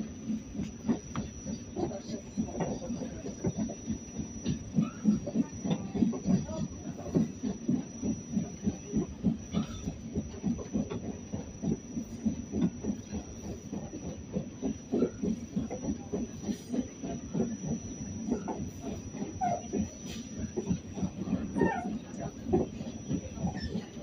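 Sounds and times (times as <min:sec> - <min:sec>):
subway car rumble: 0:00.0 - 0:24.0.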